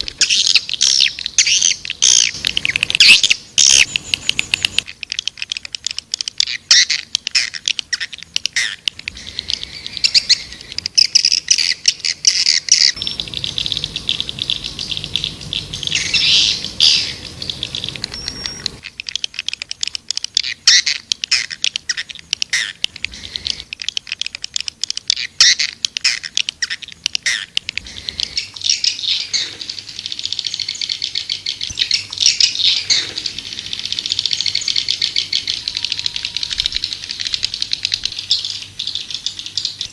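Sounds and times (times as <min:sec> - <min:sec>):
swiftlets twittering: 0:00.0 - 0:39.9.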